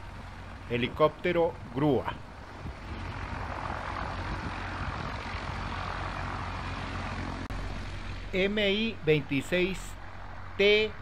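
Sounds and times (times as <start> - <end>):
aircraft noise: 0.0 - 11.0.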